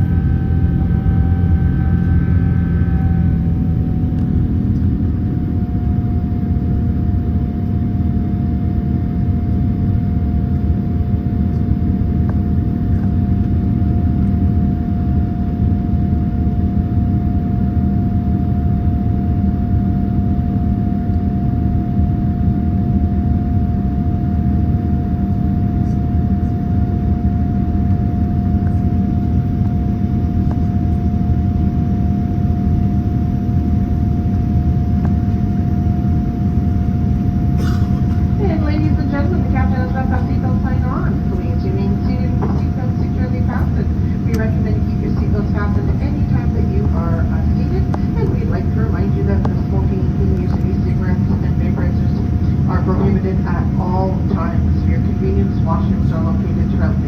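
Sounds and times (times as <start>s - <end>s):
aircraft cabin engine rumble: 0.0s - 57.0s
constant engine whine: 0.0s - 57.0s.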